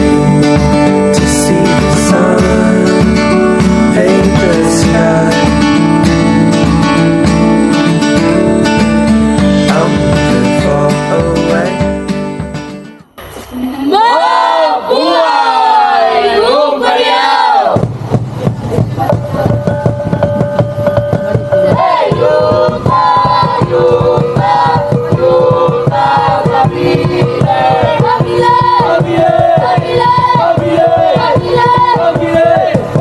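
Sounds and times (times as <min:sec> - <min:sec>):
song with sung vocals: 0:00.0 - 0:12.5, 0:19.0 - 0:33.0
steady beat and bass: 0:00.0 - 0:13.1, 0:17.7 - 0:33.0.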